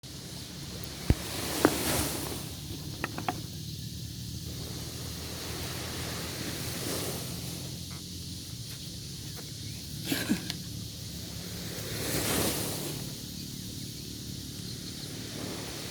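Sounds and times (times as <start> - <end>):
sea: 0.0 - 15.9
wind: 0.0 - 15.9.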